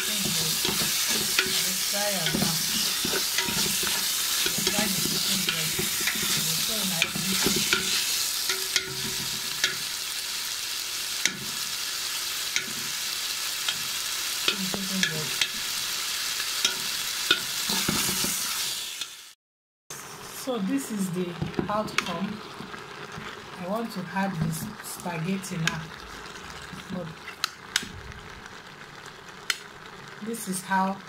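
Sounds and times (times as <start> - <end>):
chicken sizzling in a pan: 0.0 - 19.4, 20.0 - 31.0.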